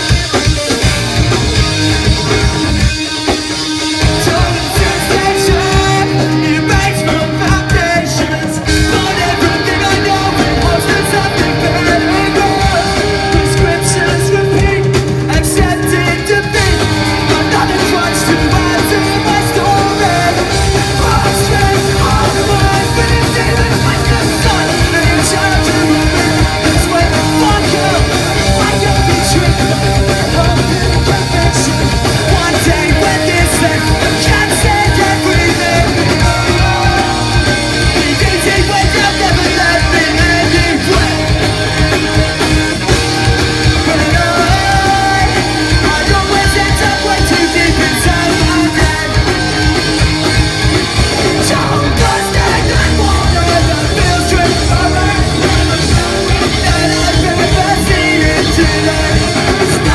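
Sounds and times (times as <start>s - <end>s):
punk rock band playing: 0.0s - 59.9s
shouted singing: 3.9s - 59.9s.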